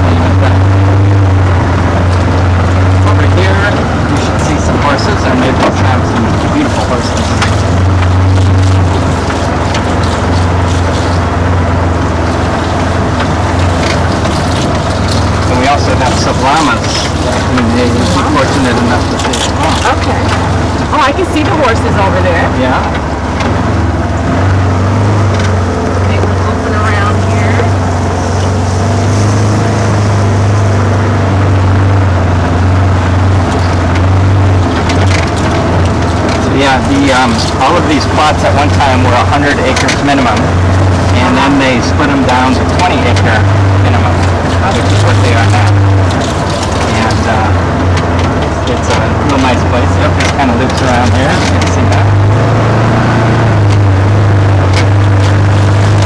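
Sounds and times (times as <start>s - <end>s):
atv engine running: 0.0s - 56.0s
ride noise on dirt track: 0.0s - 56.0s
light rattles and knocks: 0.1s - 56.0s.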